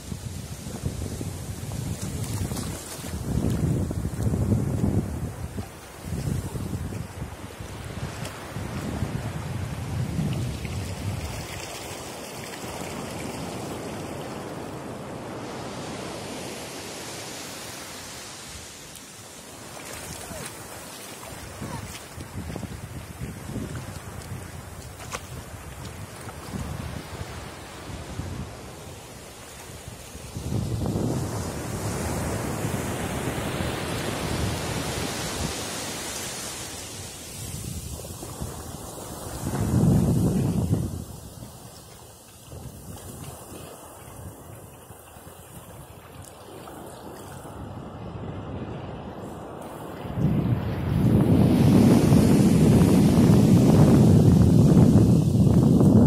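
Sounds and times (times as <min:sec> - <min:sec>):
surf washing over sand: 0:00.0 - 0:56.0
waves breaking on a beach: 0:00.0 - 0:56.0.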